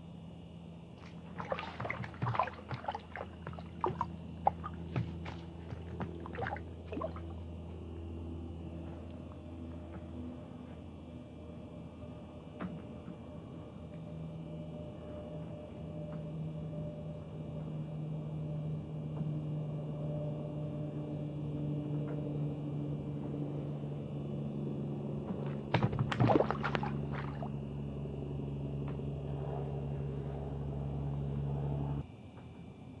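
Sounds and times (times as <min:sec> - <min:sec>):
low motor hum: 0:00.0 - 0:33.0.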